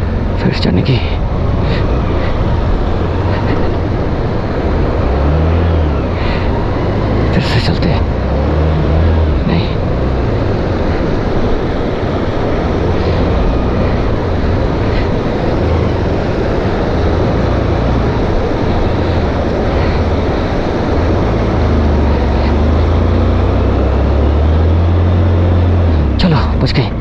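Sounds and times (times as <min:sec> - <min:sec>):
loud rushing noise: 0:00.0 - 0:27.0
motorcycle engine droning: 0:00.0 - 0:27.0.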